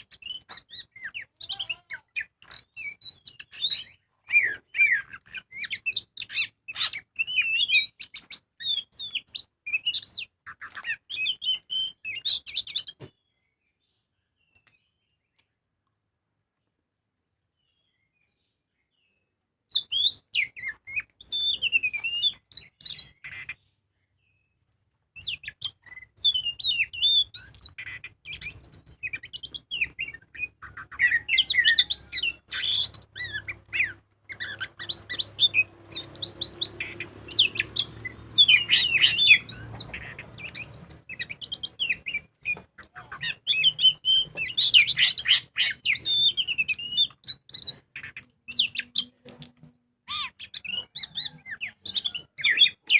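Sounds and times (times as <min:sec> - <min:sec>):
songbird singing varied song: 0:00.0 - 0:15.6, 0:17.5 - 0:49.2, 0:50.0 - 0:52.9.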